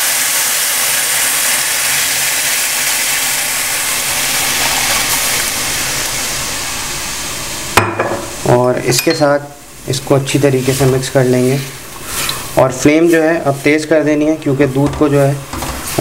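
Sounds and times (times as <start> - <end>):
milk sizzling in hot pan: 0.0 - 16.0.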